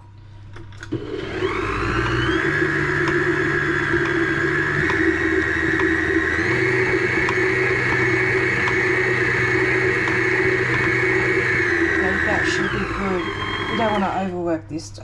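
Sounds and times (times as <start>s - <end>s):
stand mixer beating dough: 0.9s - 14.3s.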